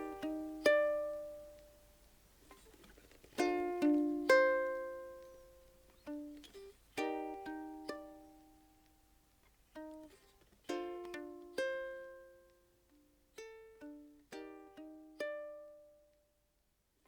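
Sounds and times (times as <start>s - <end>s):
plucked ukulele: 0.0s - 16.1s.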